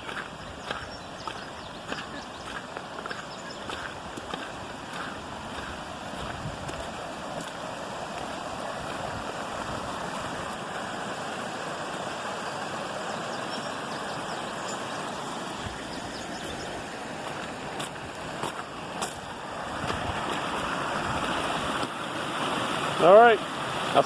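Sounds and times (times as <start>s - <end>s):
water rushing down stream: 0.0s - 24.0s.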